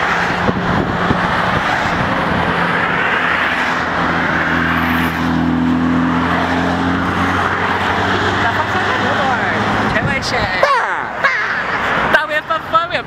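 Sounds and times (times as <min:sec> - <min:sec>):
highway traffic rushing past: 0:00.0 - 0:13.0
vehicle engine hum: 0:00.0 - 0:13.0.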